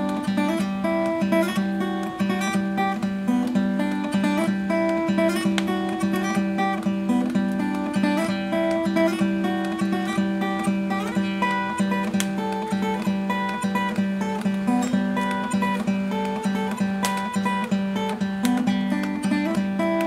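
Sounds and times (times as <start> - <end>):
fingerpicked acoustic guitar: 0.0 - 20.0.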